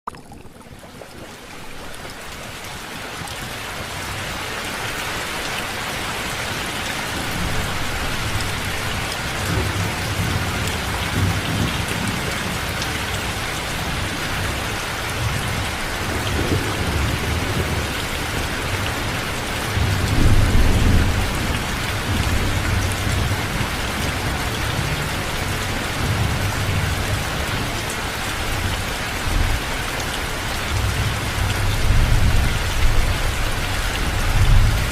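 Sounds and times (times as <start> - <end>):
steady rain falling: 0.4 - 34.9.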